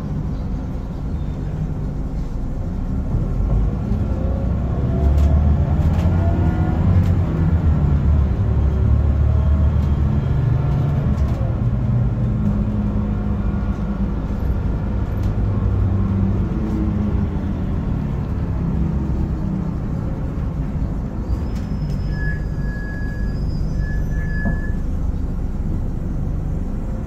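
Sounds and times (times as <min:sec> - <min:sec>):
bus engine rumbling: 0:00.0 - 0:27.0.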